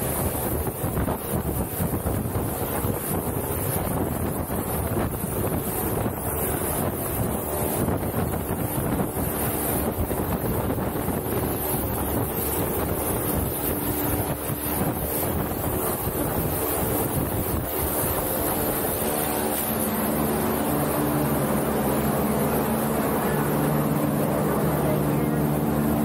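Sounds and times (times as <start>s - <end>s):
propeller aircraft engines running: 0.0s - 26.0s
wind noise on microphone: 0.0s - 26.0s.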